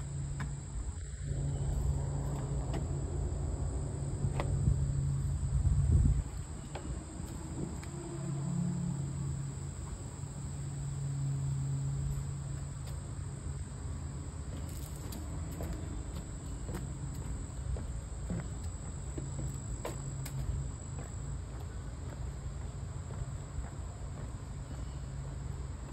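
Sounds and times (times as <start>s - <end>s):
low hum: 0.0s - 23.7s
insects trilling: 0.0s - 25.9s.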